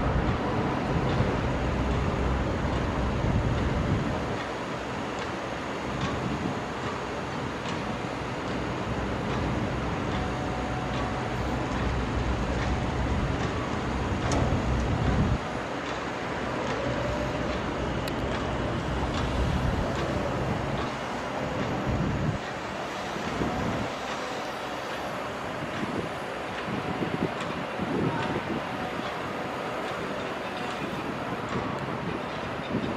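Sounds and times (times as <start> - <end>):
diesel engines droning: 0.0 - 32.9.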